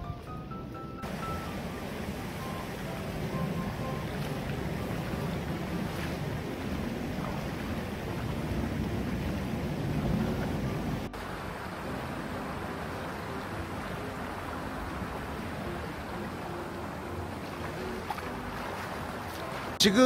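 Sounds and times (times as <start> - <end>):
wading splashes in stream: 1.0 - 19.8
water rushing over weir: 1.0 - 20.0.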